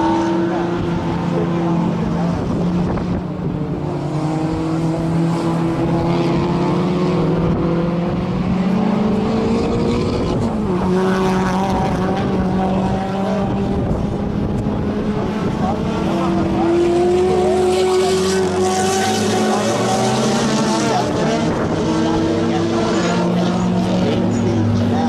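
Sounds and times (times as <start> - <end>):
race car engine revving high: 0.0 - 25.0.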